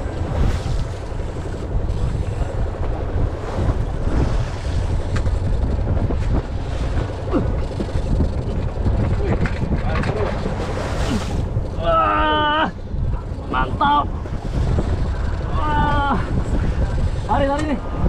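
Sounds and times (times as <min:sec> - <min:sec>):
waves washing against hull: 0:00.0 - 0:18.0
wind buffeting microphone: 0:00.0 - 0:18.0.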